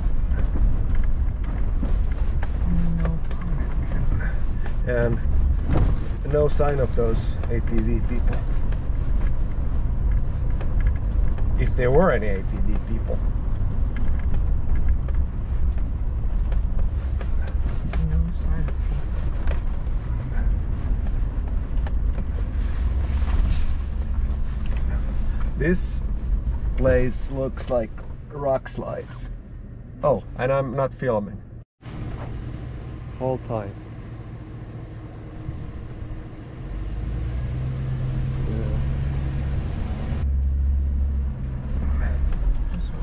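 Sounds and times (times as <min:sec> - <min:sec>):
engine and tyres rumbling: 0:00.0 - 0:43.0.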